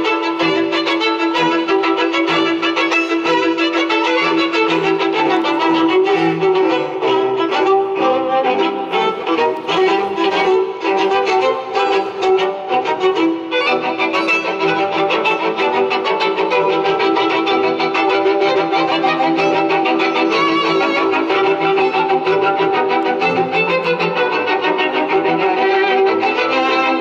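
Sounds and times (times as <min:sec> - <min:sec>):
string ensemble playing classical: 0:00.0 - 0:27.0.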